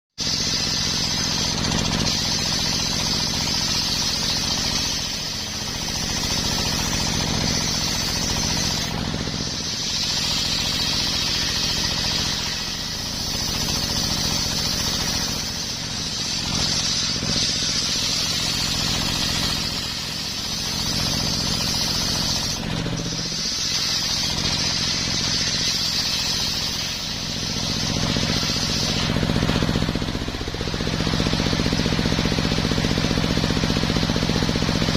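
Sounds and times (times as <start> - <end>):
saw blade cutting wood: 0.2 - 34.9
sawmill motor drone: 0.2 - 34.9.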